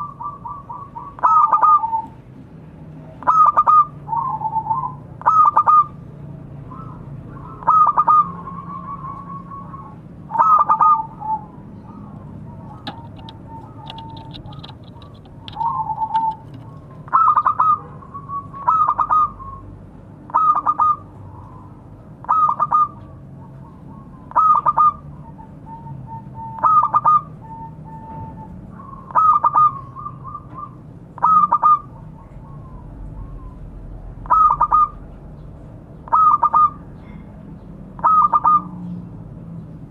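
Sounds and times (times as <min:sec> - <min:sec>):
dove cooing: 0:00.0 - 0:02.2, 0:03.0 - 0:06.0, 0:06.7 - 0:19.6, 0:20.3 - 0:35.0, 0:36.1 - 0:37.2, 0:38.0 - 0:38.9.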